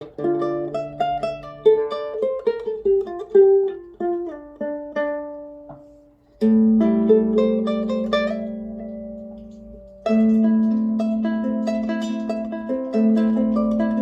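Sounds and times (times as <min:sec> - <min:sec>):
small nylon-string guitar fingerstyle: 0:00.0 - 0:14.0.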